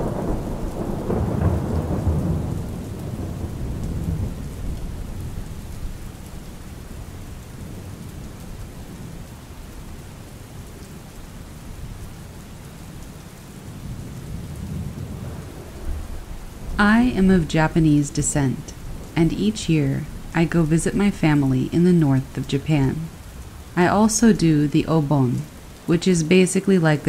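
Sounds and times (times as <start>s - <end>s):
thunder rumbling: 0.0s - 9.2s, 13.5s - 27.0s
steady rain: 0.0s - 27.0s.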